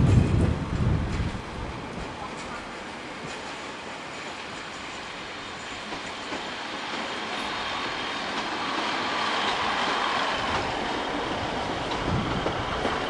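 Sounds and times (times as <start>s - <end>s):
passenger train passing: 0.0s - 13.0s
wheels on rails: 0.0s - 13.0s.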